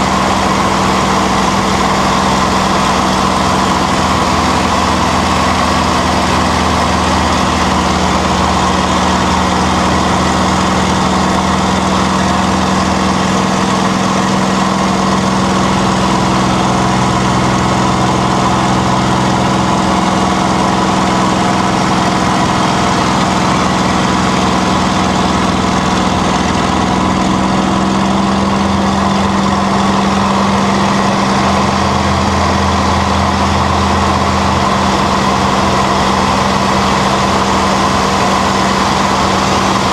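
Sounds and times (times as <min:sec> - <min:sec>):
aircraft engine drone: 0:00.0 - 0:39.9
low undertone: 0:00.0 - 0:39.9.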